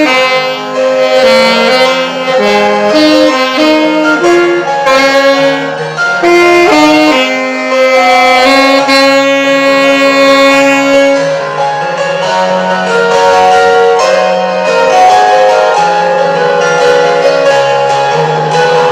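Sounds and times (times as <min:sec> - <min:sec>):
alto saxophone melody: 0:00.0 - 0:18.9
instrumental accompaniment: 0:00.0 - 0:18.9.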